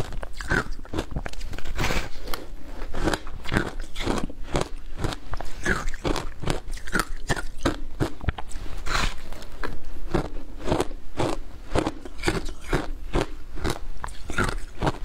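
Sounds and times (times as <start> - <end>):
chewing crunchy ice: 0.0 - 15.0.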